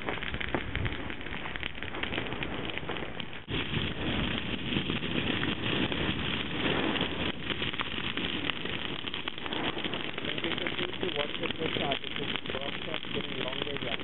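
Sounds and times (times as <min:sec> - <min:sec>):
grass fire crackling: 0:00.0 - 0:14.0.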